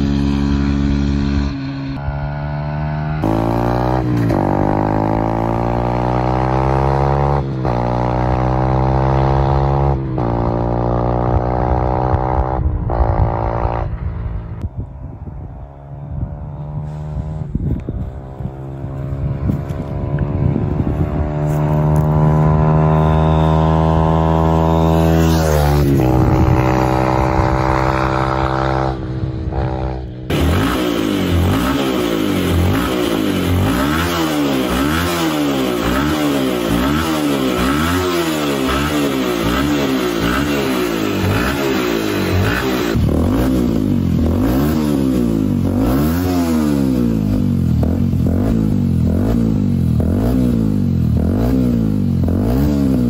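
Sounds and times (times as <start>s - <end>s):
motorcycle engine accelerating: 0.0s - 53.0s
motorcycle engine revving: 0.0s - 53.0s.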